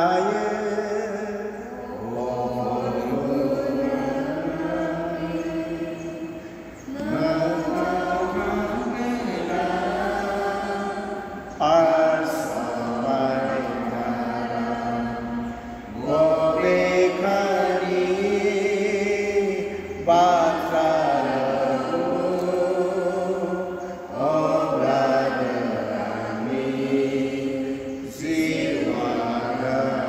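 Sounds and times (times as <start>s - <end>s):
devotional chant singing: 0.0s - 30.0s.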